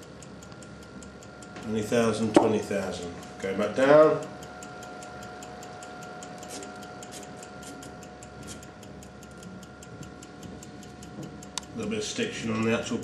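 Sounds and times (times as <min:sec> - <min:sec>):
faint steady whine: 0:00.0 - 0:13.0
fast mechanical ticking: 0:00.0 - 0:13.0.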